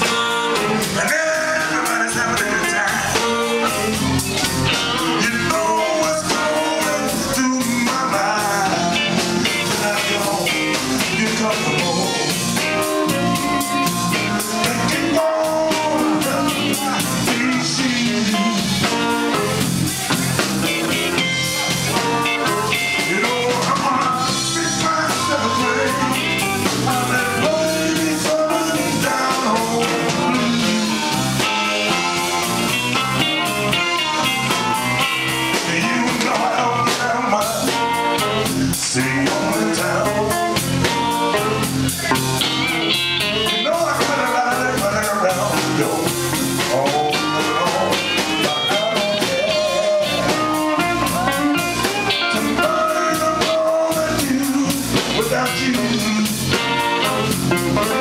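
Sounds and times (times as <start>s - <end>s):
amplified harmonica: 0.0s - 44.5s, 45.2s - 58.0s
drum kit: 0.0s - 58.0s
electric bass: 0.0s - 58.0s
electric guitars: 0.0s - 58.0s
person singing: 0.0s - 58.0s.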